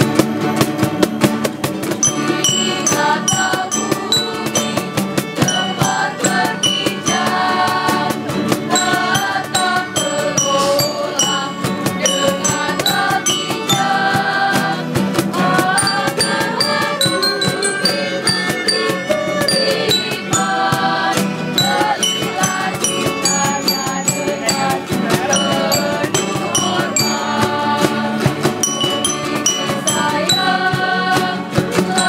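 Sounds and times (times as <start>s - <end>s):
acoustic guitars: 0.0s - 32.0s
glockenspiel notes: 2.0s - 32.0s.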